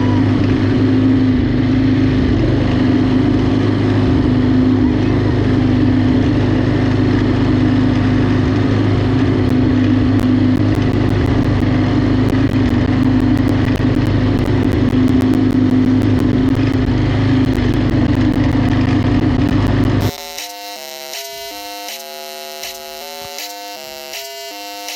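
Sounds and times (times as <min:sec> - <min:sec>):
lawnmower engine droning: 0:00.0 - 0:20.2.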